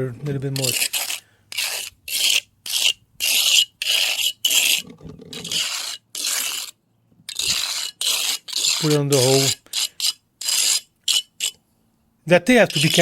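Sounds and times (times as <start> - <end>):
trowel scraping wet cement: 0.2 - 11.6, 12.6 - 13.0.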